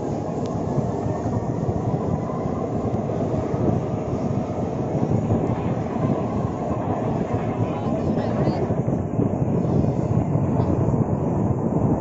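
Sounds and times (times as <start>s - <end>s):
jets passing overhead: 0.0s - 12.0s.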